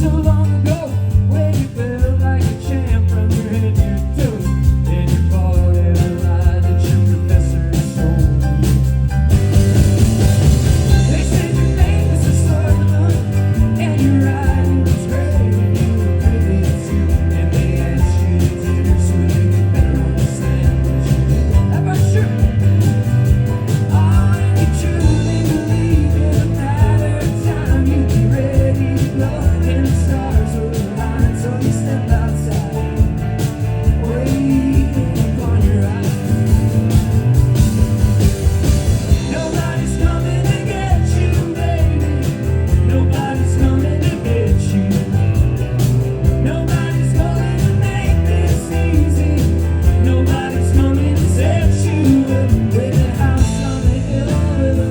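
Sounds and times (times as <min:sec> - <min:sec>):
person singing: 0:00.0 - 0:09.4, 0:10.4 - 0:37.2, 0:38.7 - 0:54.9
bass guitar: 0:00.0 - 0:54.9
drums: 0:00.0 - 0:54.9
electric guitar: 0:00.0 - 0:54.9.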